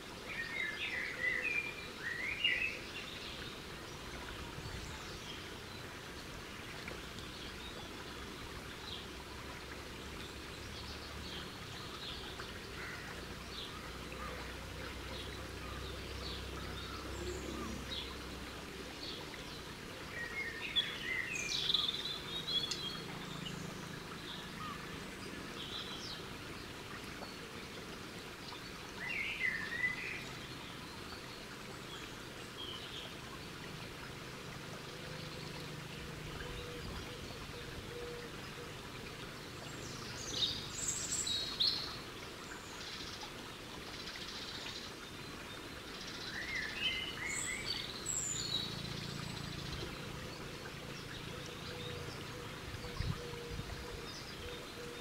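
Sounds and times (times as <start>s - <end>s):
birds singing and calling: 0.2s - 6.1s, 6.8s - 34.1s, 34.8s - 55.0s.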